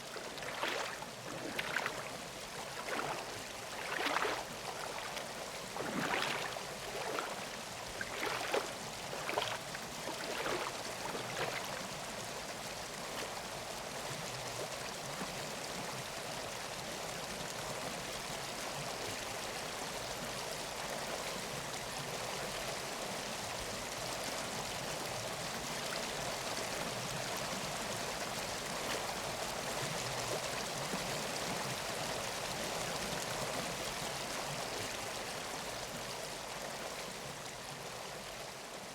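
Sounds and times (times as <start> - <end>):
forest stream flowing: 0.0 - 38.9.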